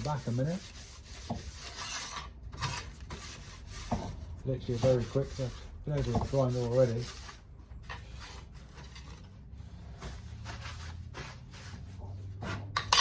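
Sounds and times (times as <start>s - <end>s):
scraping on sheet metal: 0.0s - 13.0s.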